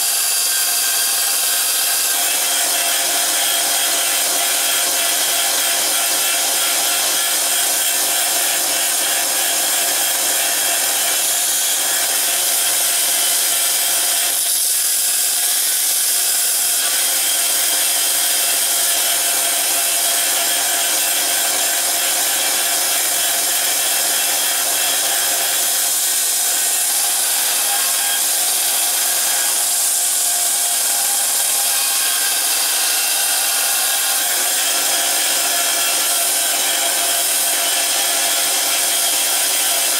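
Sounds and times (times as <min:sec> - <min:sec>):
belt sander grinding knife blade: 0:00.0 - 0:39.9.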